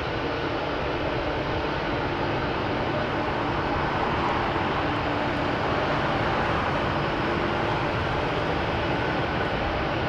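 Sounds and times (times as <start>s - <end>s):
jet engines running at low power: 0.0s - 10.0s.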